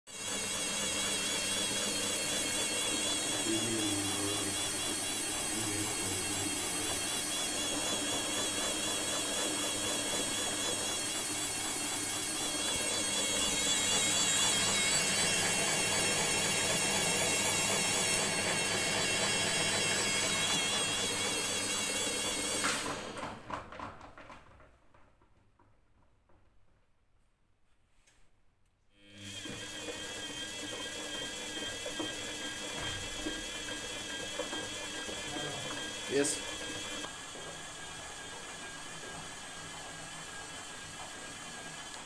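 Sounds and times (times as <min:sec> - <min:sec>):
washing machine motor whine and hum: 0:00.1 - 0:24.1, 0:29.0 - 0:42.0.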